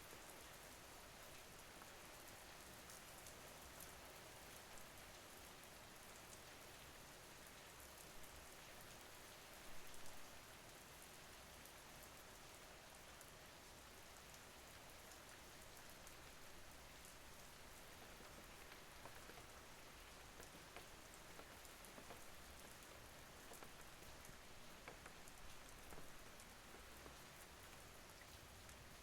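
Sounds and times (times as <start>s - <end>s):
faint steady rain: 0.0s - 29.0s
sharp ticks of raindrops: 0.0s - 29.0s.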